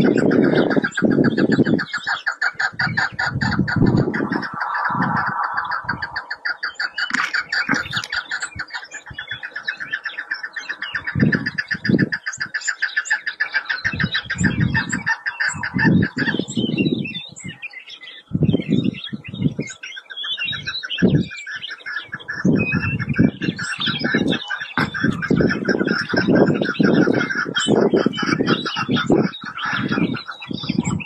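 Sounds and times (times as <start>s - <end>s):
deeper partridge calls: 0.0s - 31.0s.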